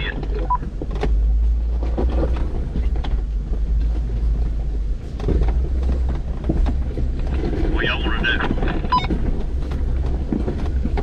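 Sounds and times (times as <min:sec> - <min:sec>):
off-road vehicle engine rumble: 0:00.0 - 0:11.0
knocks and rattles: 0:00.1 - 0:11.0.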